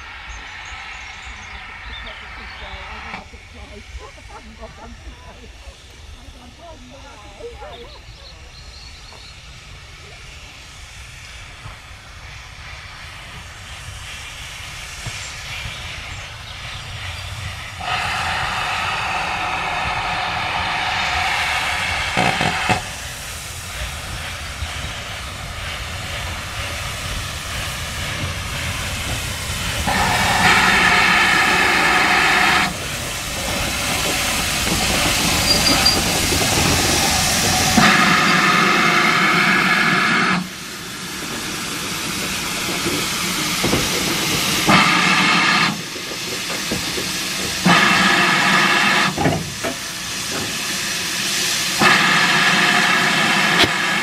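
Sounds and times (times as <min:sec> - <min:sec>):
bursts of escaping steam: 0:00.0 - 0:54.0
steam locomotive hissing: 0:00.0 - 0:54.0.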